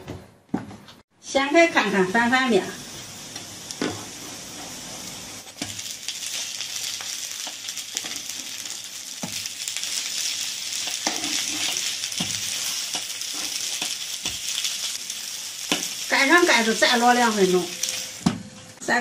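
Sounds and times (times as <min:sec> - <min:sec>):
pancakes sizzling in oil: 0:01.7 - 0:18.3.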